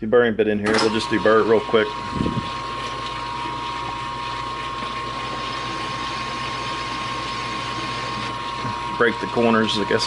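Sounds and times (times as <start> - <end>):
metal lathe running: 0.7 - 10.0.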